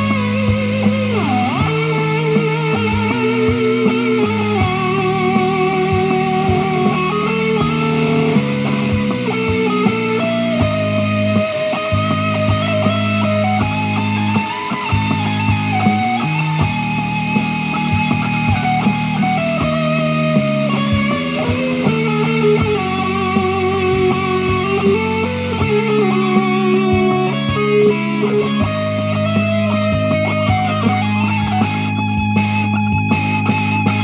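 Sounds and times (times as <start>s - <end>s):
electric guitar slow melody: 0.0s - 34.0s
steady beat: 0.0s - 34.0s
sustained bass notes: 0.0s - 34.0s.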